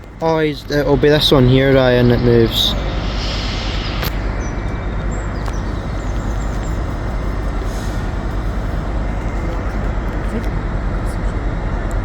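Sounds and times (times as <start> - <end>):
train rumbling and hissing: 0.0 - 12.0.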